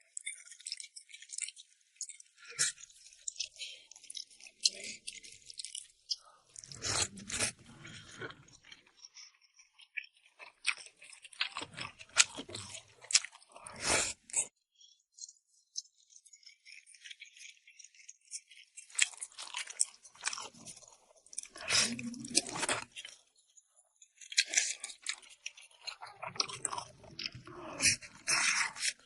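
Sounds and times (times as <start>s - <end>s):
person chewing noodles: 0.1s - 14.5s, 15.7s - 29.0s.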